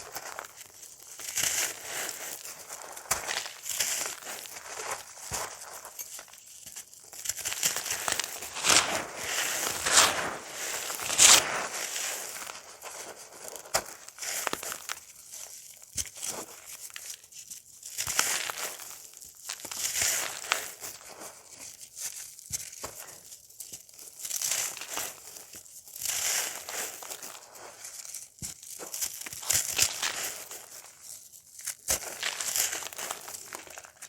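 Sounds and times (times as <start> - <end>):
crunchy cake crumbling: 0.0 - 34.0.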